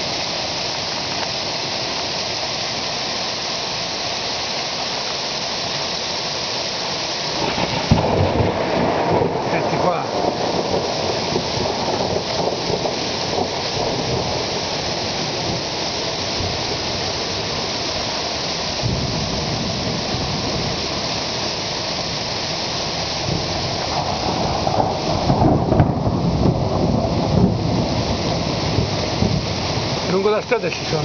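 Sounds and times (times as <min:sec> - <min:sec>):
hail and heavy rain falling: 0:00.0 - 0:31.0.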